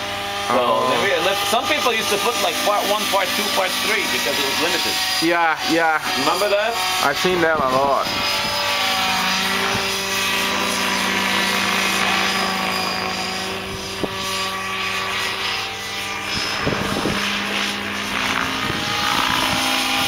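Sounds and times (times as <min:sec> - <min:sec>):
model helicopter engine and rotor: 0:00.0 - 0:20.0.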